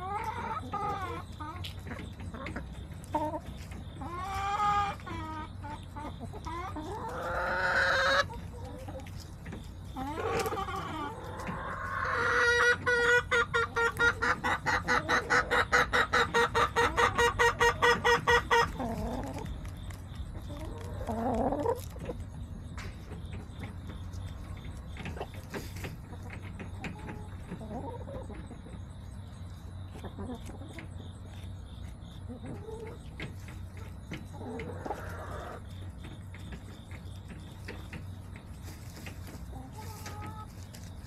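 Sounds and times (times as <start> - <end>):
chickens clucking and calling: 0.0 - 41.0.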